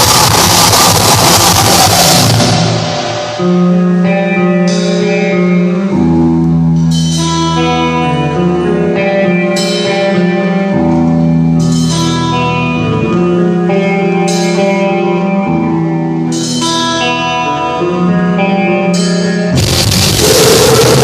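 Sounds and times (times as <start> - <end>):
amplified guitar chords: 0.0 - 21.0.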